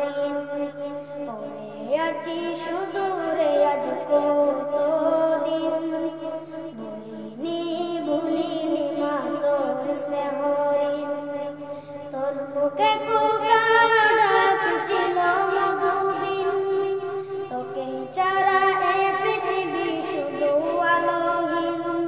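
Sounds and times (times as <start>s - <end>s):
boy singing into a microphone: 0.0s - 22.0s
faint steady hum: 0.0s - 22.0s.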